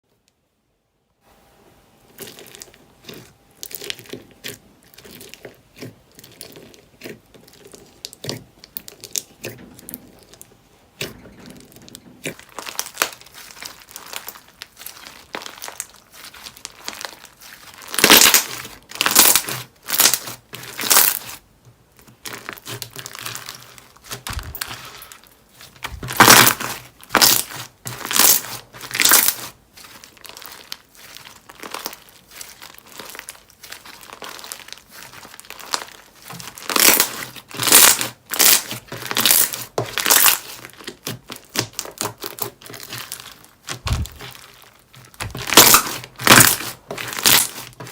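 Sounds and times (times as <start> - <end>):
slime squishing by hand: 2.1 - 47.9.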